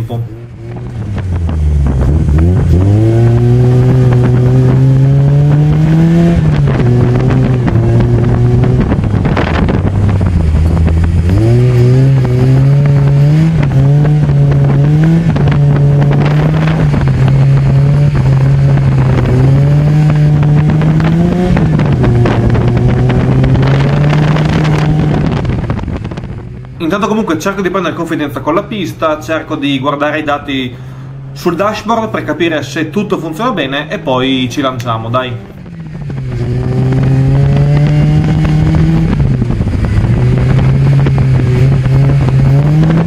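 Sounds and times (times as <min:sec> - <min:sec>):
car engine revving: 0:00.0 - 0:43.0
wind buffeting microphone: 0:00.0 - 0:43.0.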